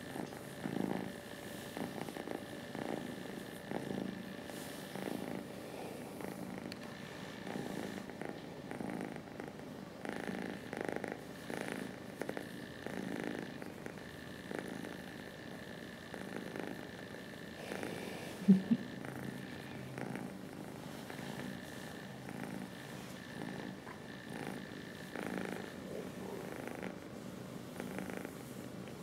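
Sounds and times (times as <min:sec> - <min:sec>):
cat purring: 0:00.0 - 0:29.0.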